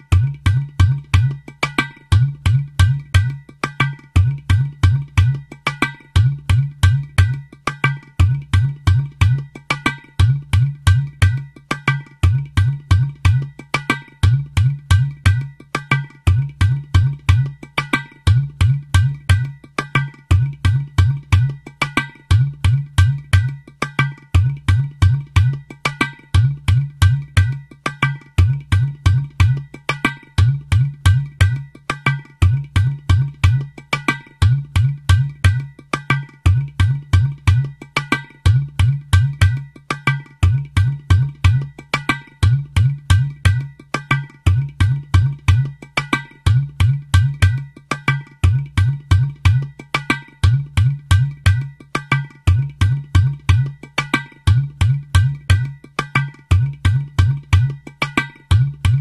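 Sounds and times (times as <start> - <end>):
drum and percussion beat: 0.0 - 59.0.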